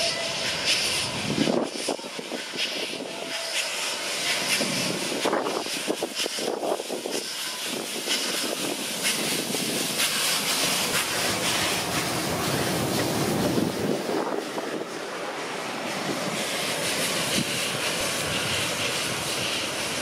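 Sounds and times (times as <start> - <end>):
steam locomotive hissing past: 0.0 - 20.0.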